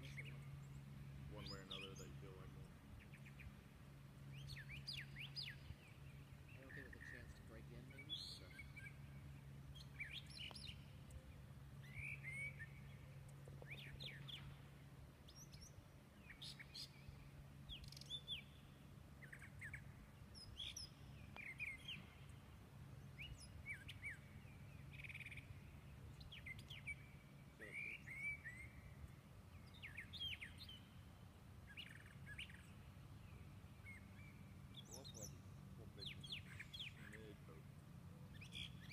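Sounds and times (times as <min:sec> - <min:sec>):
birds chirping: 0:00.0 - 0:38.9
low steady hum: 0:00.0 - 0:38.9.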